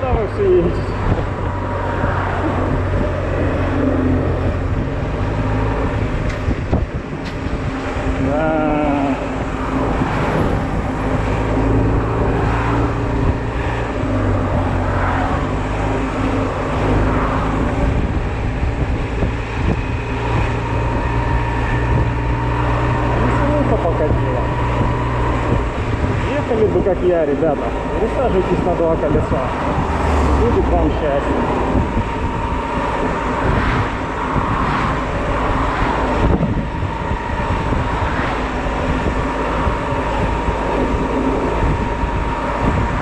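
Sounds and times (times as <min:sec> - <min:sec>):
road noise: 0:00.0 - 0:43.0.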